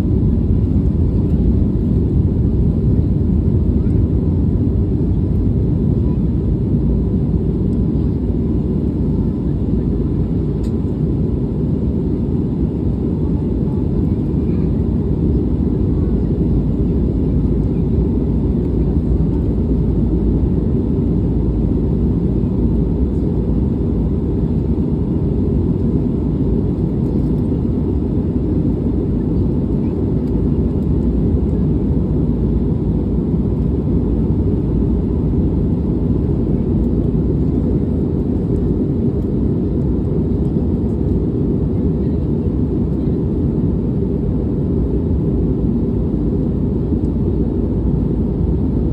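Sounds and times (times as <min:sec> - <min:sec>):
jet airliner cabin rumble: 0:00.0 - 0:48.9.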